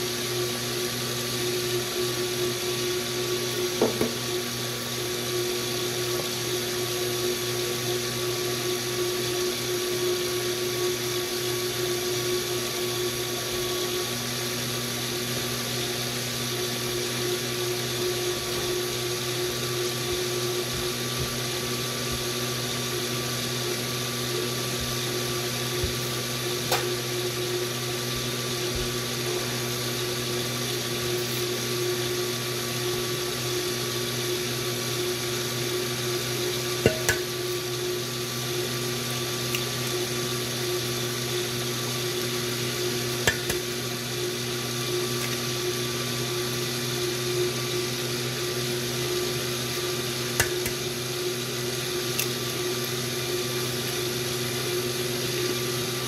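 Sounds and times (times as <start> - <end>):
multicooker stirrer motor humming: 0.0 - 56.0.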